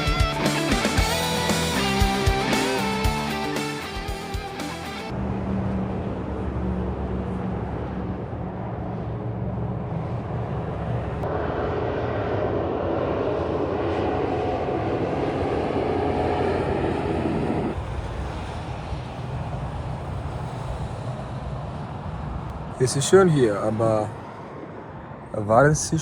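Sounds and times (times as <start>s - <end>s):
loud drone: 0.0s - 22.1s.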